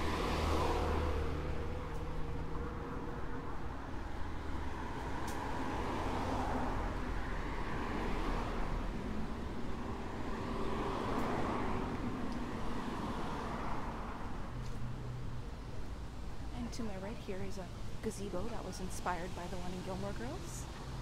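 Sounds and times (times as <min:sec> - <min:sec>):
cars passing: 0:00.0 - 0:21.0
steady traffic hum: 0:00.0 - 0:21.0.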